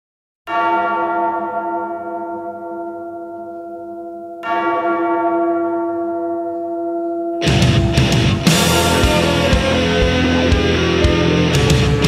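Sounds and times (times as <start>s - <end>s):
large bell tolling: 0.5s - 12.0s.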